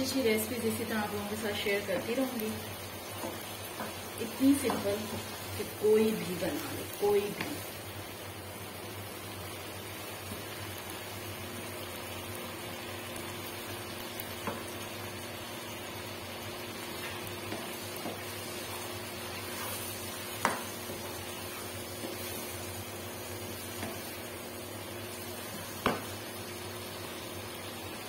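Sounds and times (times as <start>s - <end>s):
vegetables sizzling in wok: 0.0s - 28.0s.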